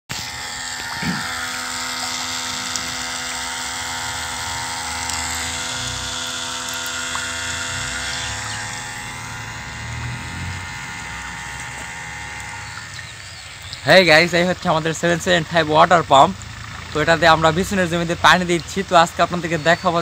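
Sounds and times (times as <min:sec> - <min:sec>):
water pump motor whining: 0:00.1 - 0:20.0
water splashing: 0:00.2 - 0:18.9.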